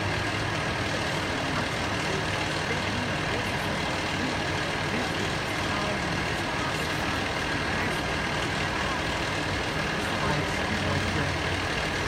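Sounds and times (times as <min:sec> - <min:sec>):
fire truck engine idling: 0:00.0 - 0:12.0.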